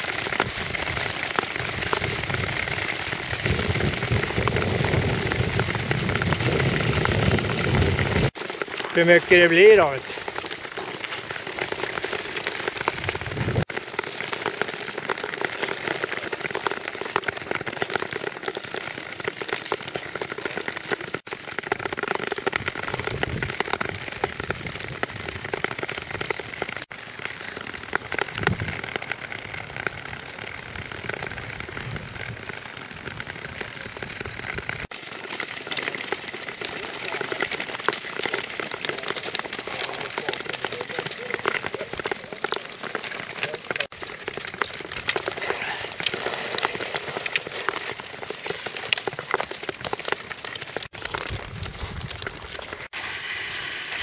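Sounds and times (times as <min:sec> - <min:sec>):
small clicks and ticks: 0:00.0 - 0:53.0
skates scraping on ice: 0:00.0 - 0:54.0.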